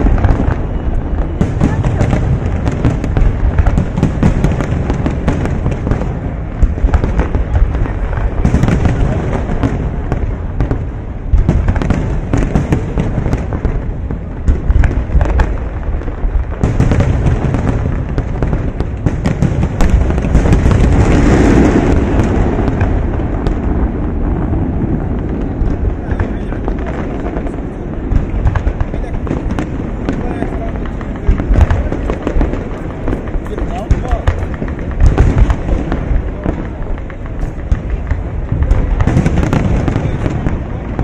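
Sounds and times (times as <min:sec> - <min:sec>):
fireworks booming and crackling: 0:00.0 - 0:41.0.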